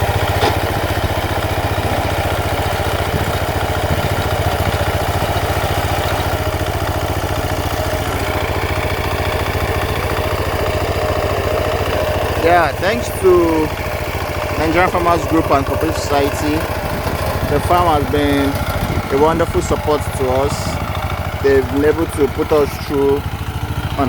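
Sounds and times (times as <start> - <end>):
harvester engine running: 0.0 - 24.0.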